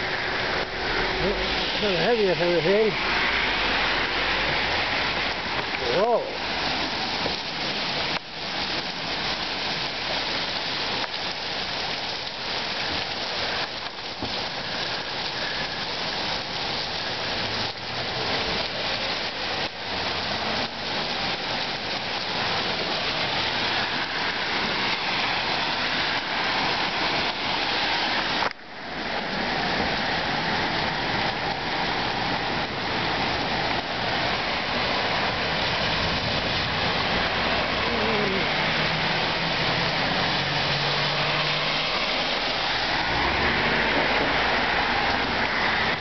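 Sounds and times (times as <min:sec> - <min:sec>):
car tyres swishing on wet road: 0:00.0 - 0:46.0
heavy rain on pavement: 0:00.0 - 0:46.0.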